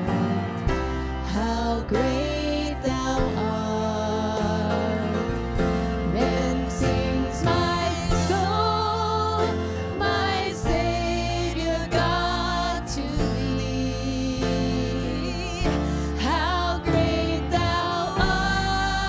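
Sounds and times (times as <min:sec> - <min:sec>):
sustained instrumental chords: 0:00.0 - 0:19.0
person singing: 0:01.2 - 0:19.0.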